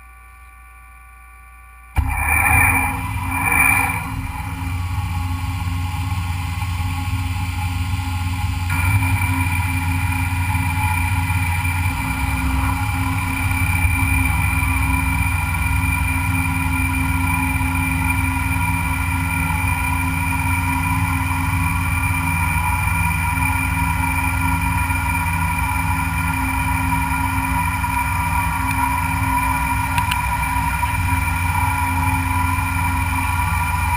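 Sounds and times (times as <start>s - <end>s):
low motor hum: 0.0s - 33.9s
high steady tones: 2.0s - 33.9s
machine tool machining metal: 2.0s - 33.9s.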